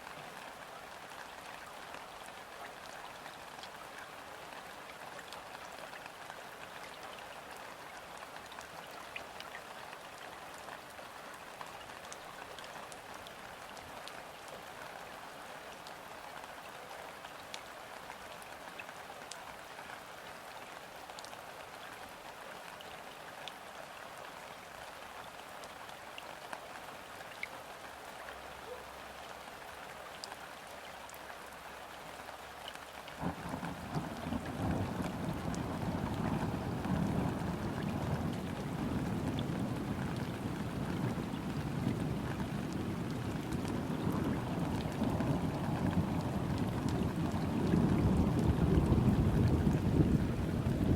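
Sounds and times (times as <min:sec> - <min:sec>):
light rain on river surface: 0:00.0 - 0:50.9.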